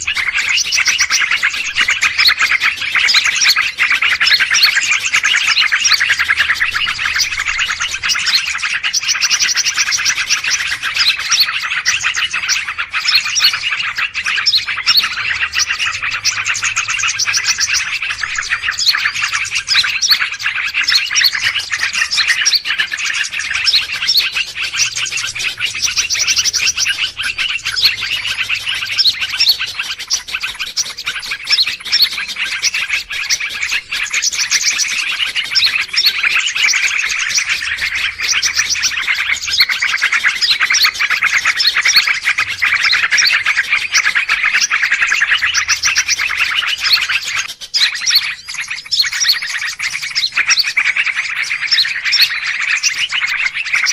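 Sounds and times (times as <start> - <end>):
many small birds chirping: 0.0 - 53.9.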